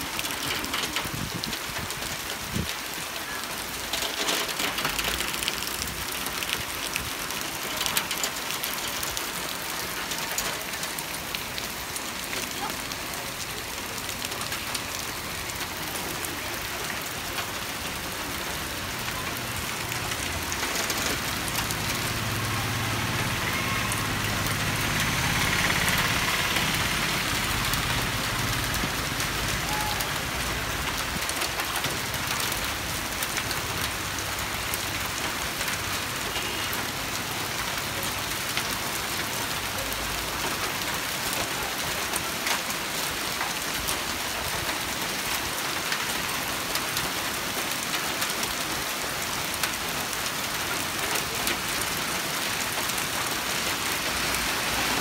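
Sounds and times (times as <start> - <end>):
hail ticking on car roofs: 0.0 - 22.2, 25.0 - 55.0
rain hissing: 0.0 - 55.0.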